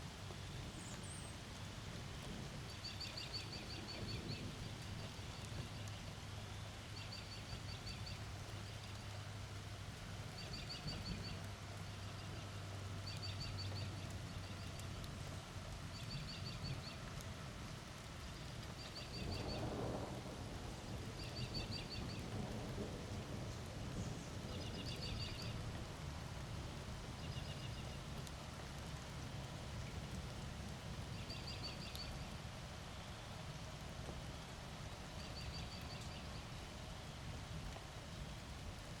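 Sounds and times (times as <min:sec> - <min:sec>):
rain: 0:00.0 - 0:39.0.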